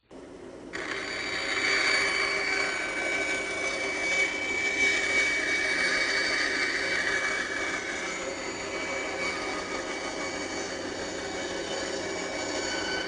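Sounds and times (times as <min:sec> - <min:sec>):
bandsaw whining: 0:00.7 - 0:13.0.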